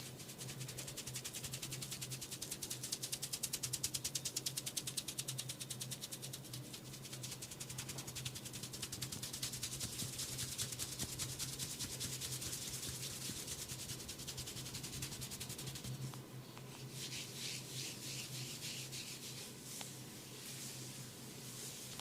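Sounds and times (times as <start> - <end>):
hands rubbing through hair: 0.0 - 22.0
steady low hum: 0.0 - 22.0.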